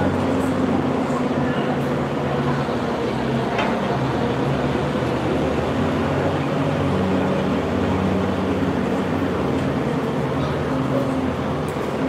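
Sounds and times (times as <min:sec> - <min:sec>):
ice rink low drone: 0:00.0 - 0:12.0.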